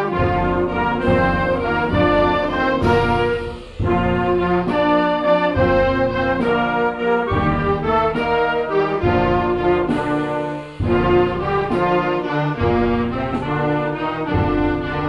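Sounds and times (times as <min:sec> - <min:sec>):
brass band playing march: 0:00.0 - 0:15.0.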